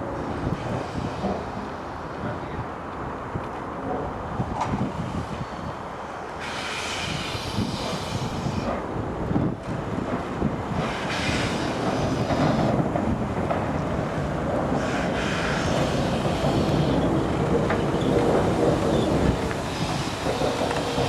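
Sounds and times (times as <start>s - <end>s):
steam locomotive rumbling: 0.0s - 21.0s
wind on microphone: 0.0s - 21.0s.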